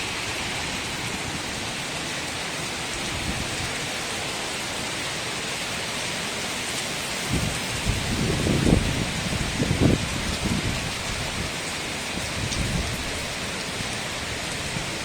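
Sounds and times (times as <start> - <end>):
rainfall hiss: 0.0 - 15.0.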